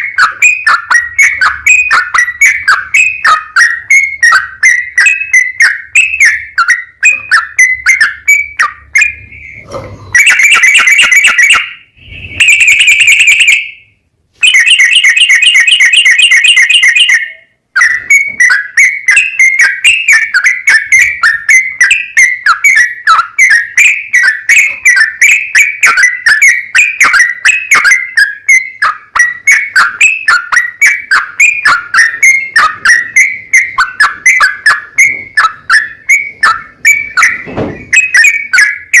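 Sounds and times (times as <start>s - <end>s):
fast rattling bird trills: 0.0s - 13.7s, 14.4s - 39.0s
bird chirping song: 0.0s - 39.0s.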